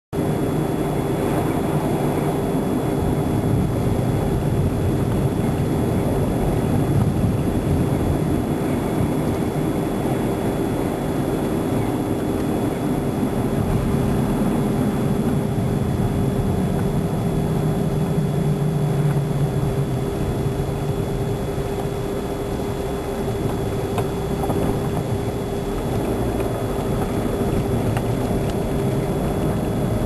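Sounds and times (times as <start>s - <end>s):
car engine and road noise: 0.1s - 30.0s.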